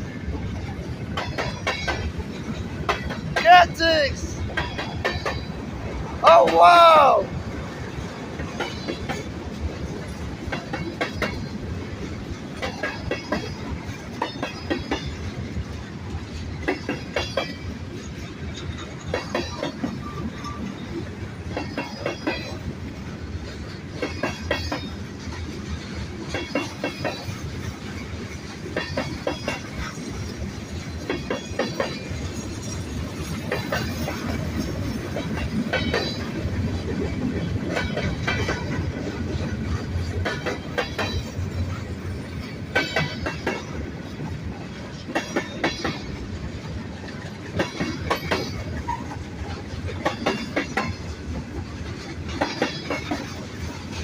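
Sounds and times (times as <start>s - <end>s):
train wheels clacking on rail joints: 0.0s - 3.8s, 4.4s - 6.6s, 7.3s - 54.0s
freight train rumble: 0.0s - 54.0s.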